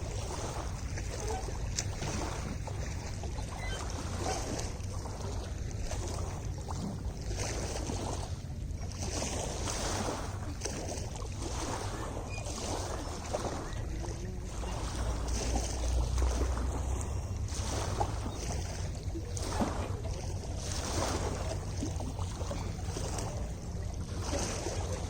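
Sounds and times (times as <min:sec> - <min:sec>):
waves lapping against shore: 0:00.0 - 0:25.0
wind rumble on microphone: 0:00.0 - 0:25.0.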